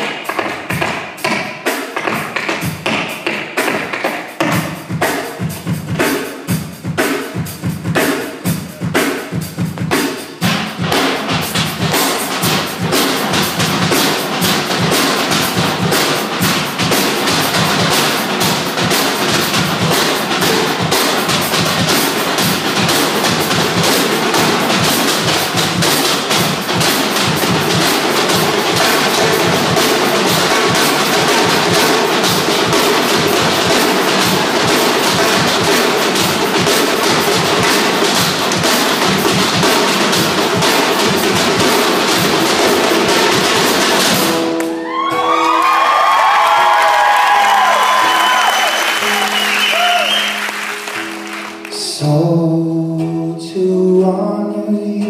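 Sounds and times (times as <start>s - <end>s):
drums played live: 0.0s - 53.1s.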